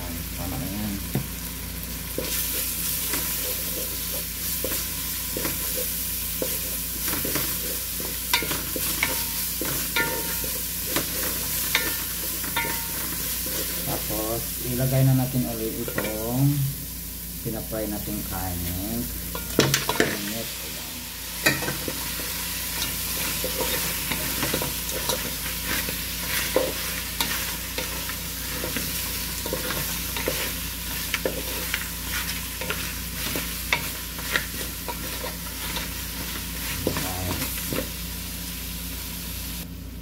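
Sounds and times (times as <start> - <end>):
meat sizzling in hot oil: 0.0 - 39.6.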